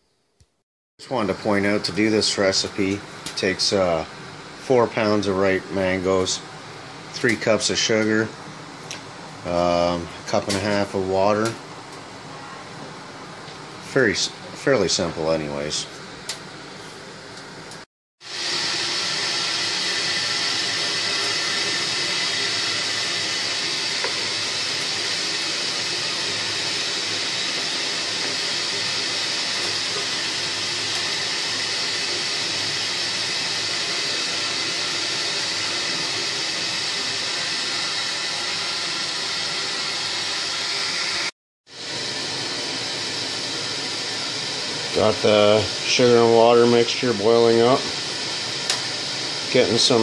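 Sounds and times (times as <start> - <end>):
syrup hissing on boil: 1.0 - 17.3, 18.2 - 50.0.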